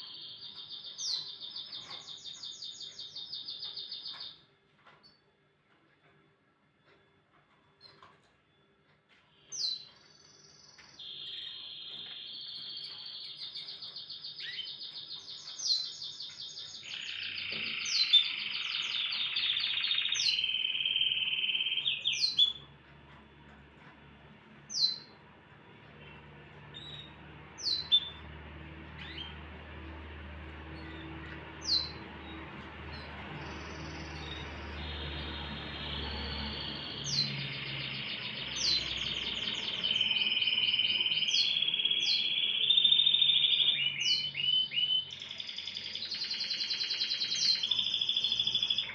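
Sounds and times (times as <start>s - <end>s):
canary singing trills: 0.0s - 5.2s, 9.1s - 48.9s.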